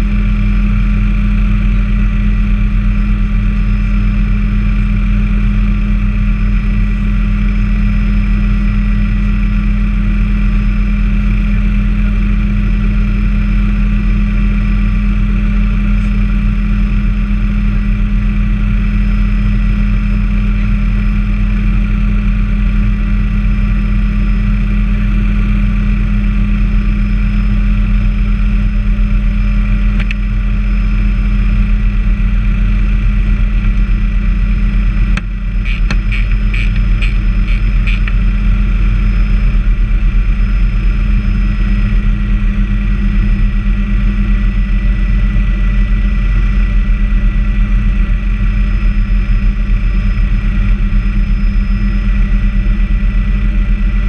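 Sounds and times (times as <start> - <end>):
helicopter rotor drone: 0.0 - 54.0
high turbine whine: 0.0 - 54.0.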